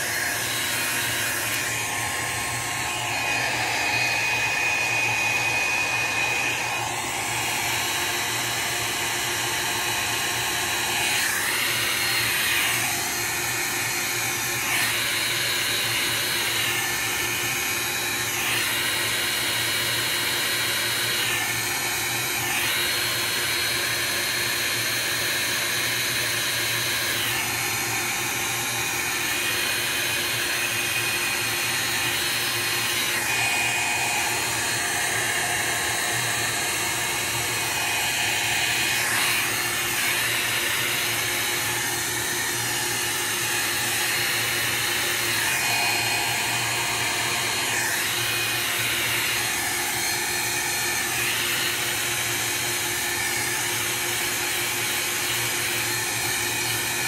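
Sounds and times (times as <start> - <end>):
heat gun blowing: 0.0 - 57.0.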